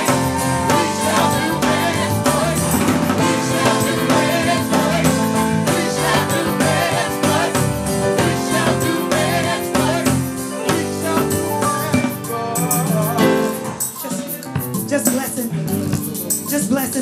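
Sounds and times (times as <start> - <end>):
voices singing: 0.0 - 14.6
gospel band with drums and keyboard: 0.0 - 17.0.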